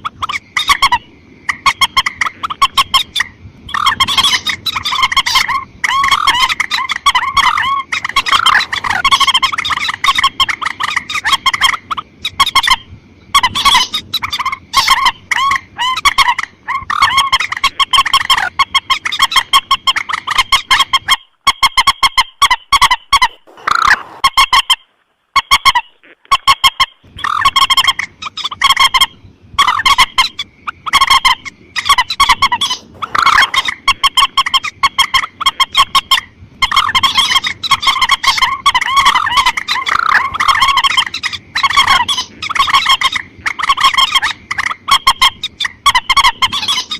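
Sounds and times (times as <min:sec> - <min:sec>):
rail bird honking calls: 0:00.0 - 0:46.9.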